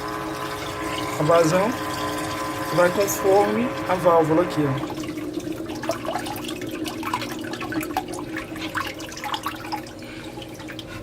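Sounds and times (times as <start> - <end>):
pump humming: 0.0 - 11.0
water splashing and trickling: 0.0 - 11.0.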